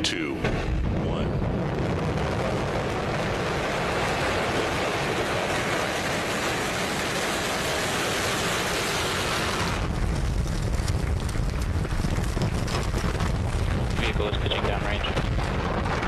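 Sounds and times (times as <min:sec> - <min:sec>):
deep low rumble: 0:00.0 - 0:16.0
rocket engines rushing roar: 0:00.0 - 0:16.0.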